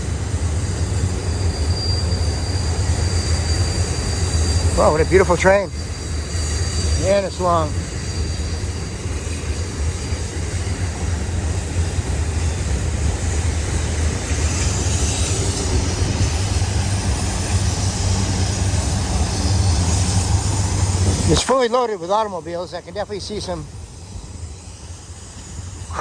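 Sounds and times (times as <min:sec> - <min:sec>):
freight train rumbling on rails: 0:00.0 - 0:26.0.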